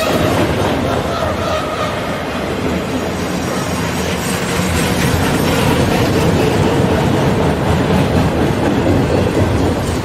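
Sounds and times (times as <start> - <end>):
freight train rolling past: 0.0 - 10.0.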